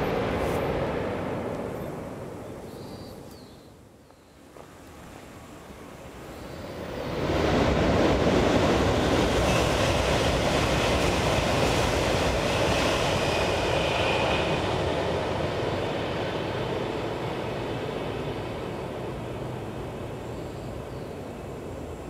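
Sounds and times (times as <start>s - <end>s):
high-speed train passing: 0.0s - 3.3s, 4.4s - 22.0s.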